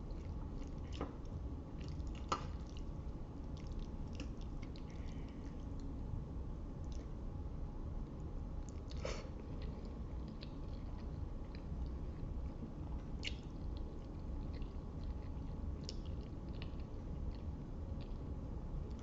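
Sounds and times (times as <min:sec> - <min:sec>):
chewing spaghetti: 0:00.0 - 0:05.9, 0:08.6 - 0:19.0.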